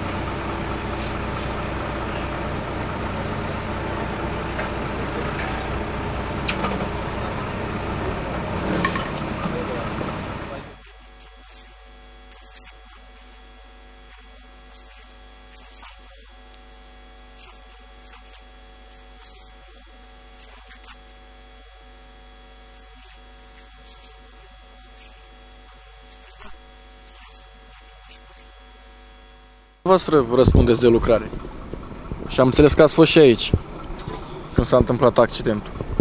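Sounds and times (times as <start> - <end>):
thin high whine: 0.0 - 33.5
electrical mains hum: 0.0 - 36.0.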